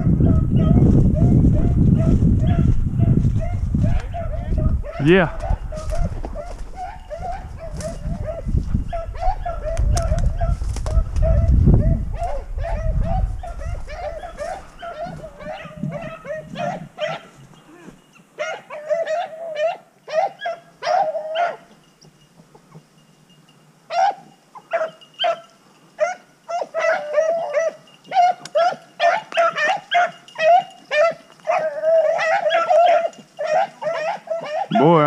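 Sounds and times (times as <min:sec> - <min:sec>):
hounds baying: 0:00.0 - 0:23.0, 0:23.9 - 0:35.0.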